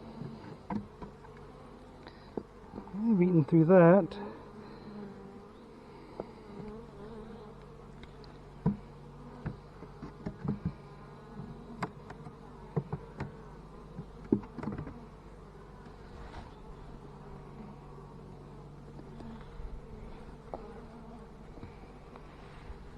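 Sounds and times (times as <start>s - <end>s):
honey bees buzzing: 0.0s - 22.9s.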